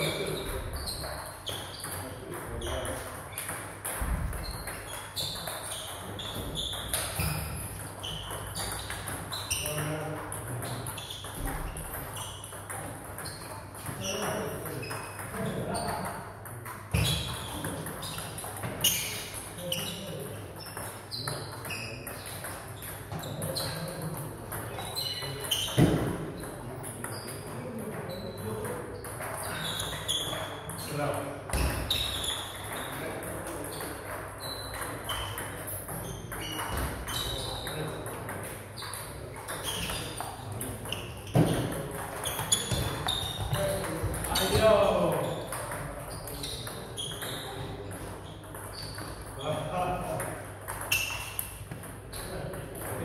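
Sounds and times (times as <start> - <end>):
voices in background: 0.0 - 53.0.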